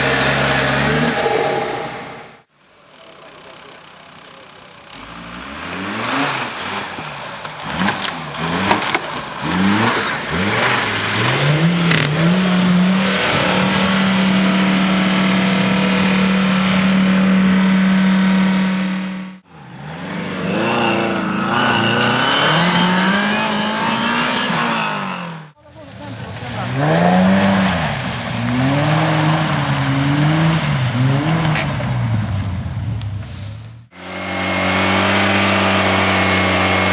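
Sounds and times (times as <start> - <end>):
race vehicle engine revving: 0.0 - 2.5, 4.8 - 36.9.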